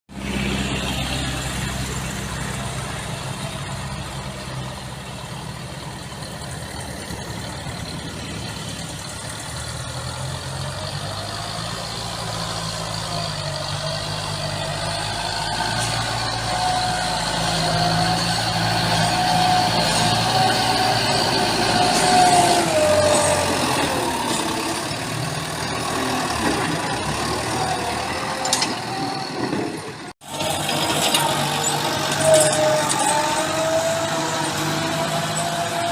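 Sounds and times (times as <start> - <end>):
heavy vehicle engine running: 0.1 - 35.9.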